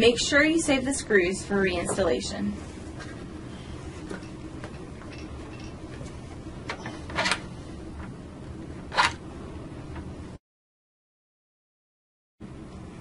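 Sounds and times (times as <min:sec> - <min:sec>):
low steady hum: 0:00.0 - 0:10.4, 0:12.4 - 0:13.0.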